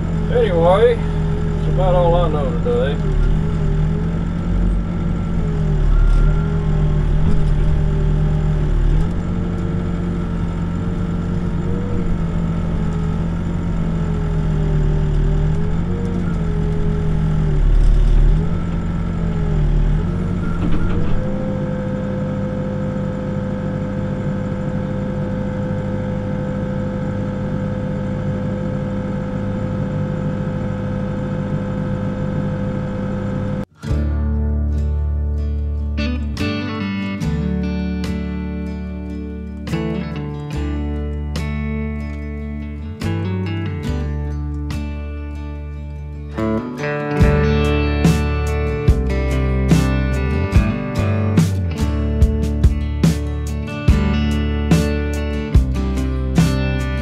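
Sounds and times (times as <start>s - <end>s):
backhoe diesel engine: 0.0s - 57.0s.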